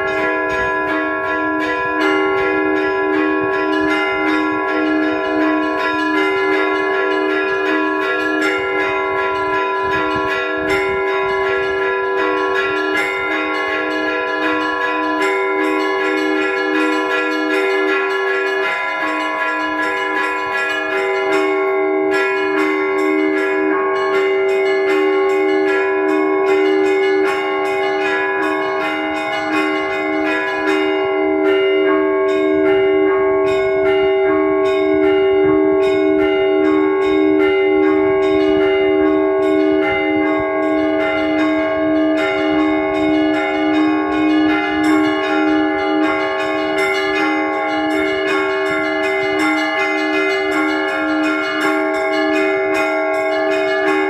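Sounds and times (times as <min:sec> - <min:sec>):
church bells pealing: 0:00.0 - 0:54.0
low bell beating steadily: 0:00.0 - 0:54.0.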